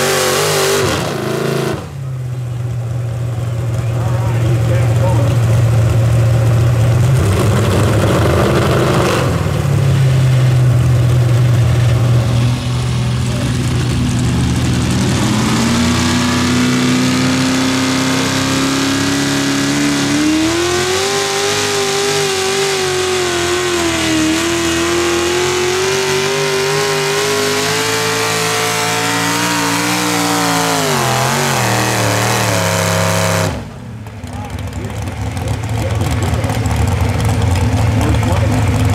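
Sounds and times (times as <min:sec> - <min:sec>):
tractor engine revving under load: 0:00.0 - 0:02.1, 0:04.0 - 0:38.9.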